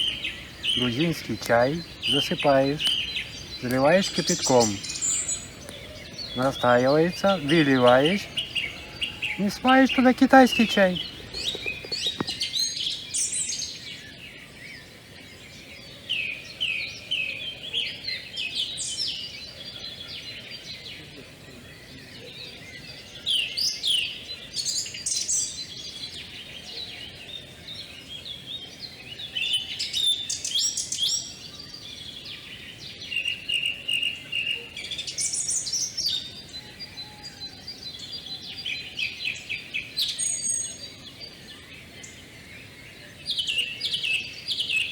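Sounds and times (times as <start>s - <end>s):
faint outdoor background: 0.0s - 44.9s
songbirds chirping and trilling: 0.0s - 44.9s.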